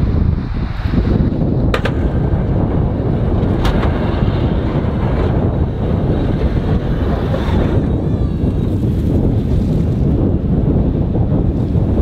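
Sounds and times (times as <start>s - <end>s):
wind buffeting microphone: 0.0s - 12.0s
pickup truck rumble: 0.9s - 12.0s
plow blade pushing snow: 1.6s - 12.0s.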